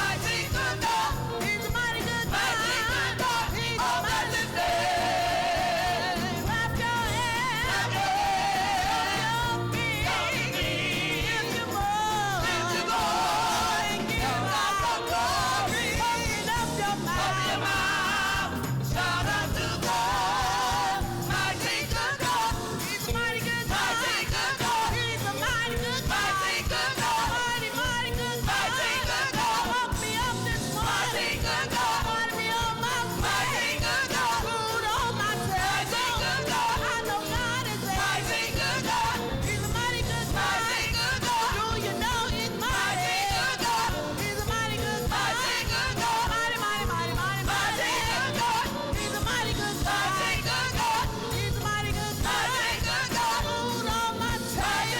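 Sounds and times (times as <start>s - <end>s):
band with steady bass line: 0.0s - 54.9s
gospel singers with vibrato: 0.0s - 54.9s.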